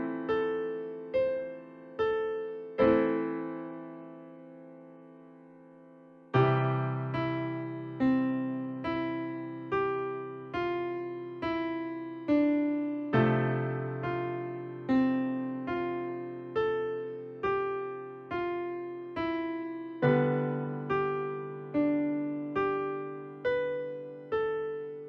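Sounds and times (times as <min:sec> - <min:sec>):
solo piano single notes: 0:00.0 - 0:25.0.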